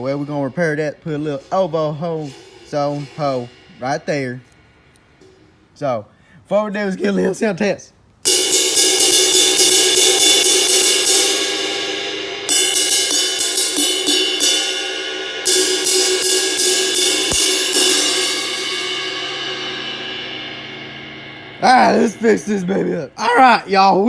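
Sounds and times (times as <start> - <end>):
ride cymbal struck with a stick: 0.0 - 5.8, 8.2 - 24.0.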